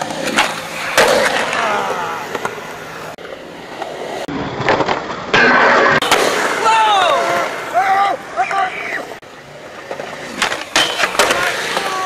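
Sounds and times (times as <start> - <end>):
skateboard grinding scrape: 0.0 - 12.0
wheels rolling on concrete: 0.0 - 12.0.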